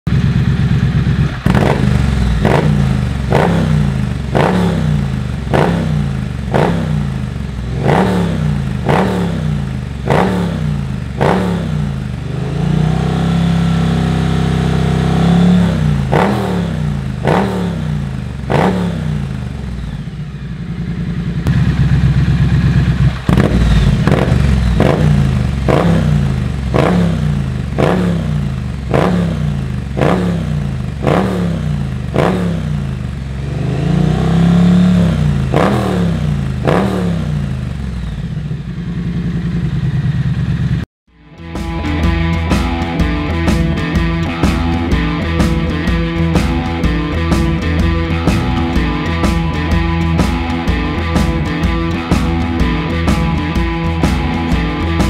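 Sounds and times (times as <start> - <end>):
motorcycle engine revving: 0.1 - 40.9, 41.6 - 55.0.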